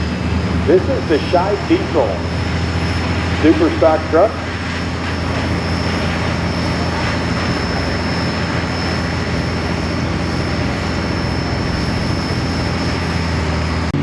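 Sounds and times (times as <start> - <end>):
diesel truck engine droning: 0.0 - 14.0
high steady whine: 0.0 - 14.0.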